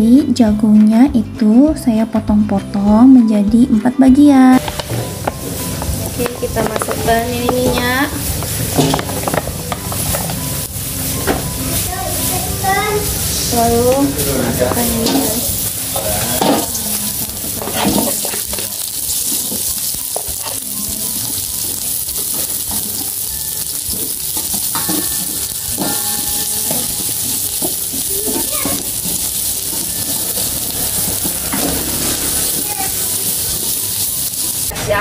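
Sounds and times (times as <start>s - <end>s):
vegetables sizzling in hot oil: 4.5s - 35.0s
spatula scraping and tapping a wok: 4.6s - 34.7s.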